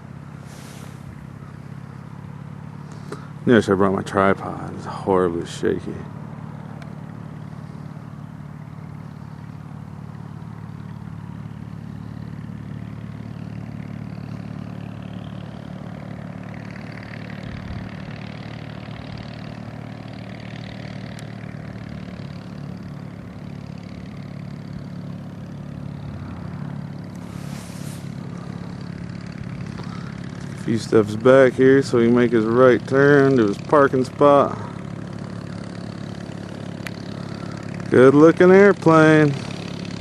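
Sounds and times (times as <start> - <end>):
light aircraft engine and propeller: 0.0 - 40.0.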